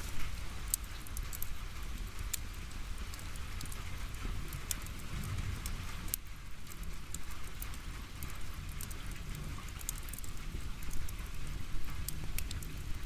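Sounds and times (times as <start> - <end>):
firewood crackling and popping: 0.0 - 13.0
low fire rumble: 0.0 - 13.0.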